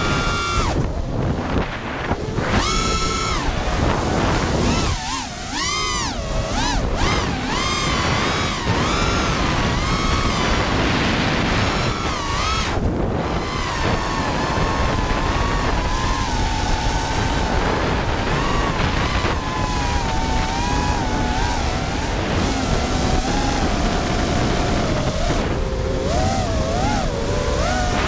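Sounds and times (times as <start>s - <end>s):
drone motors whining: 0.0s - 28.0s
wind rushing past camera: 0.0s - 28.0s.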